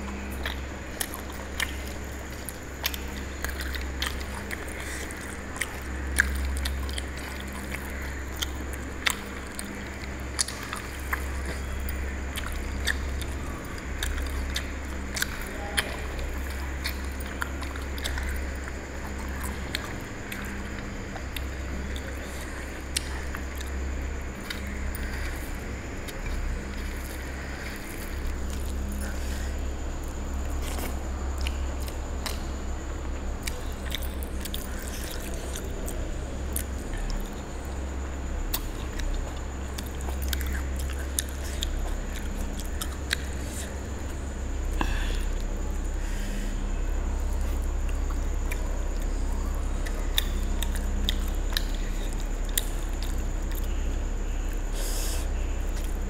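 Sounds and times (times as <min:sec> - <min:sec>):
chewing: 0:00.0 - 0:56.0
steady low hum: 0:00.0 - 0:56.0.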